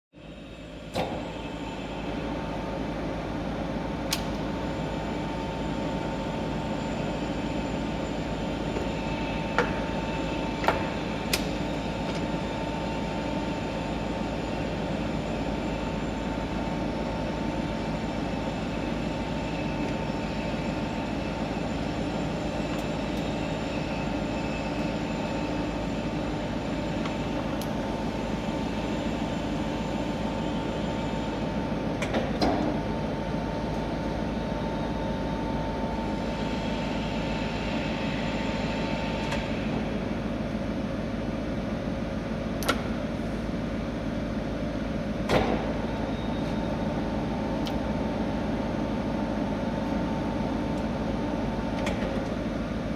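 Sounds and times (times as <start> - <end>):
lathe running with high tone: 0.2 - 42.5, 43.1 - 52.9.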